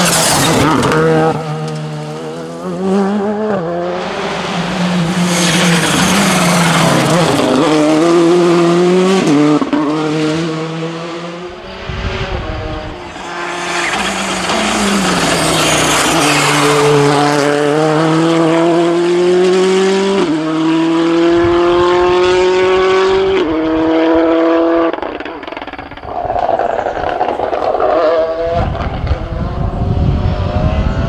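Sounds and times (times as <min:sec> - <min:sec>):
rally car engines accelerating: 0:00.0 - 0:31.0.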